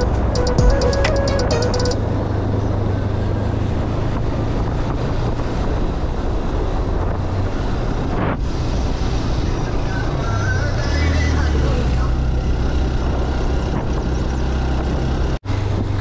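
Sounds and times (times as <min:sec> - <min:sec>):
wind rushing over microphone: 0:02.0 - 0:16.0.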